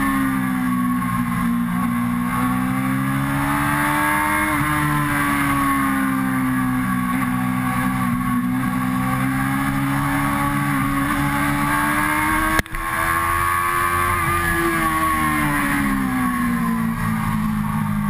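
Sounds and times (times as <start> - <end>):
motorcycle engine at high revs: 0.0 - 18.0
wind and road noise: 0.0 - 18.0.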